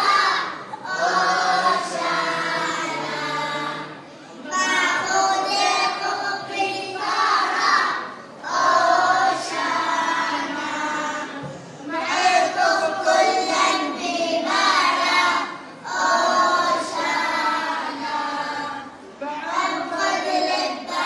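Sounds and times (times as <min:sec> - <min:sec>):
children singing along: 0:00.0 - 0:21.0.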